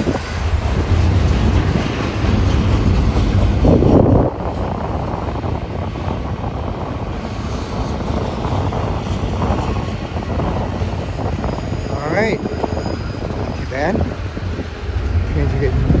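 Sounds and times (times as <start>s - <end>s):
freight train rumbling past: 0.0s - 16.0s
strong wind on microphone: 0.0s - 16.0s.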